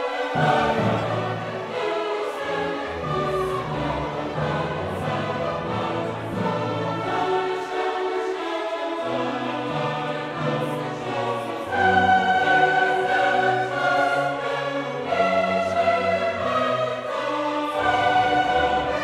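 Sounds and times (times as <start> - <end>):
choral music with held notes: 0.0 - 19.0.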